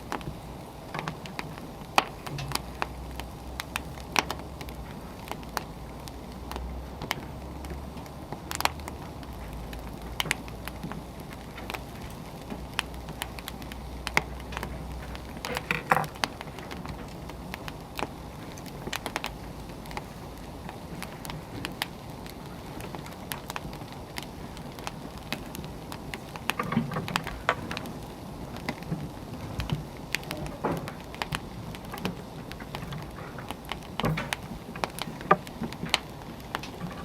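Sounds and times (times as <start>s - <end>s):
firewood crackling and popping: 0.0s - 37.0s.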